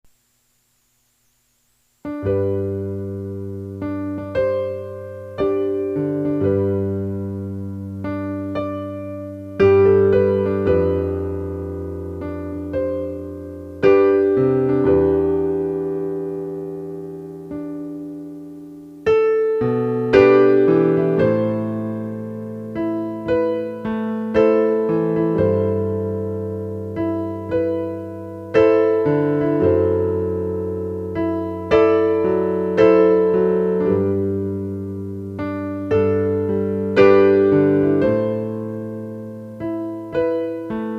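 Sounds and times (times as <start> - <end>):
slow piano music: 2.0 - 40.9.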